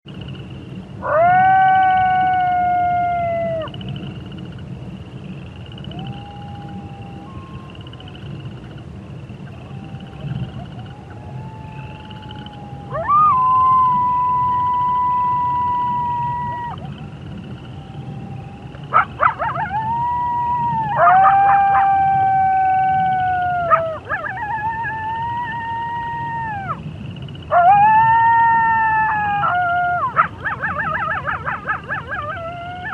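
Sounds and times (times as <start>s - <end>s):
frogs and toads trilling: 0.1s - 32.9s
coyote howling: 1.0s - 3.8s, 5.8s - 8.6s, 9.4s - 26.9s, 27.5s - 32.9s.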